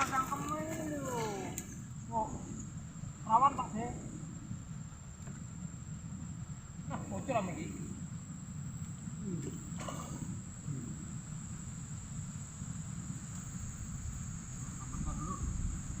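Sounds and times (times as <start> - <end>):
insects trilling: 0.0 - 16.0
low rumble: 0.0 - 16.0.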